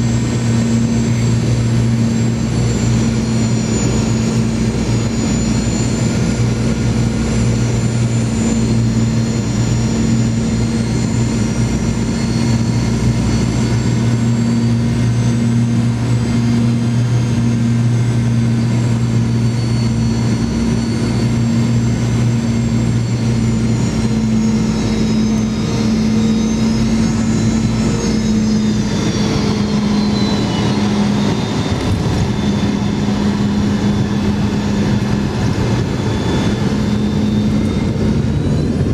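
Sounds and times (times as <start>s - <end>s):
airplane cabin airflow roar: 0.0s - 38.9s
high jet engine whine: 0.0s - 38.9s
jet engine low hum: 0.0s - 38.9s.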